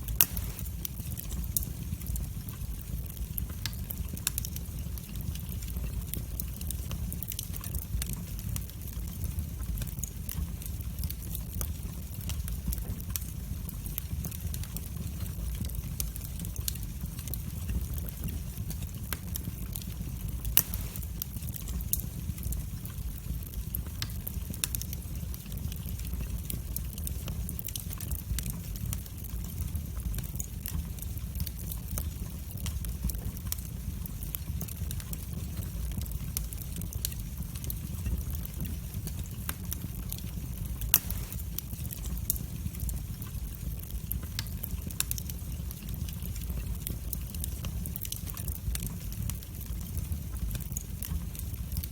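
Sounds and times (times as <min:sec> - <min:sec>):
fire crackling and popping: 0:00.0 - 0:51.9
fire flames rumbling: 0:00.0 - 0:51.9.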